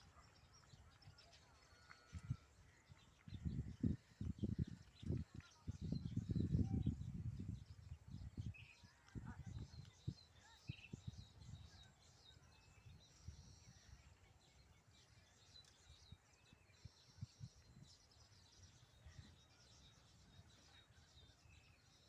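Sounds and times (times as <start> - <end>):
birds chirping and chattering: 0.0 - 22.0.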